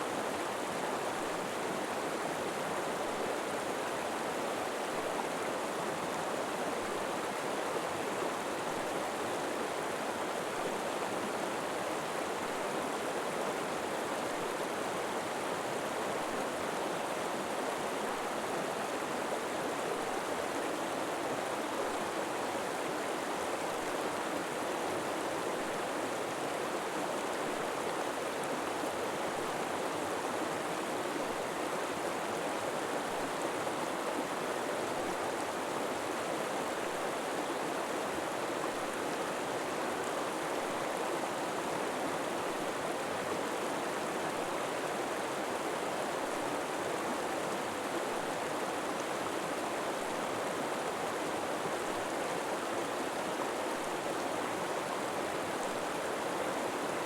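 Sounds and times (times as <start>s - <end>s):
river water flowing over rocks: 0.1s - 57.0s.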